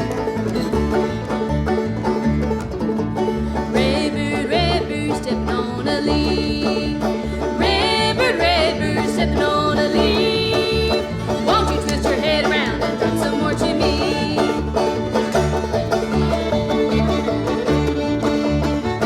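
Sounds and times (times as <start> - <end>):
banjo: 0.0 - 19.0
bluegrass band playing: 0.0 - 19.0.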